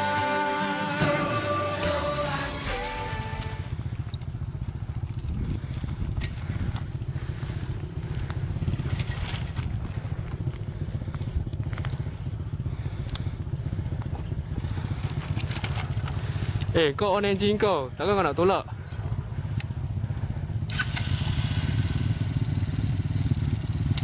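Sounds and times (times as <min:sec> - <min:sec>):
motorcycle engine idling: 0:00.8 - 0:24.0.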